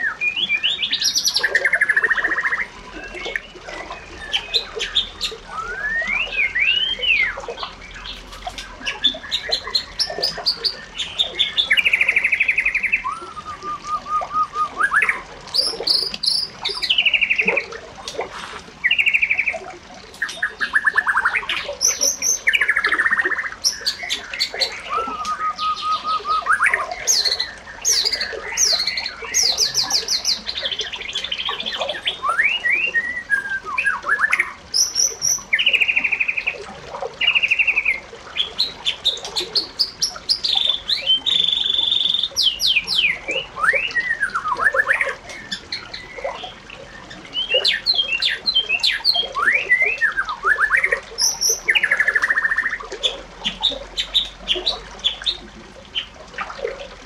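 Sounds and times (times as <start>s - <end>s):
birds chirping and trilling: 0.0s - 56.2s.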